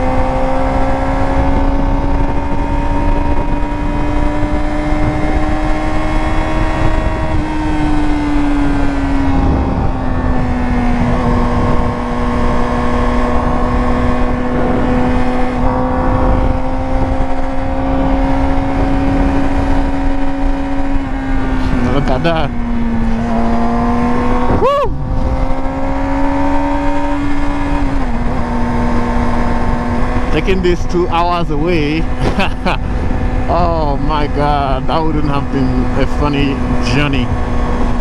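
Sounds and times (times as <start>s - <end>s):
motorcycle engine at cruising revs: 0.0s - 38.0s
wind and road noise: 0.0s - 38.0s.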